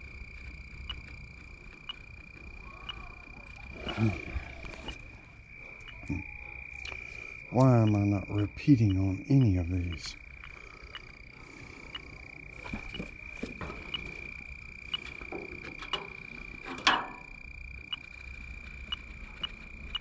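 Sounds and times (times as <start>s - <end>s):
leak detector ticking: 0.0s - 20.0s.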